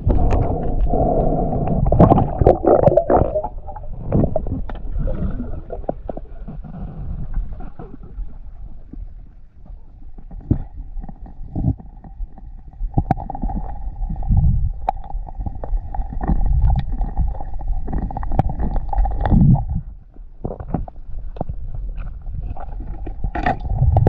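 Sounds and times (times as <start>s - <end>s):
muffled rumbling water surges: 0.0s - 24.0s.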